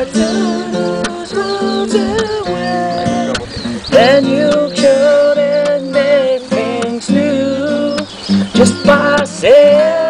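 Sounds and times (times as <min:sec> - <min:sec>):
acoustic guitars strummed: 0:00.0 - 0:10.0
man singing: 0:00.0 - 0:10.0.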